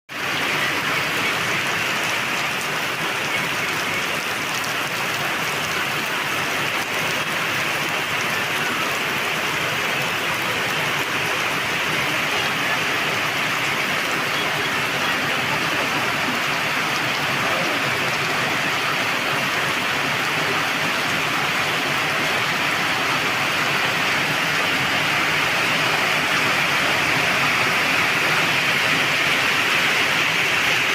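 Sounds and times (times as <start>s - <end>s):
rain falling: 0.1s - 30.9s.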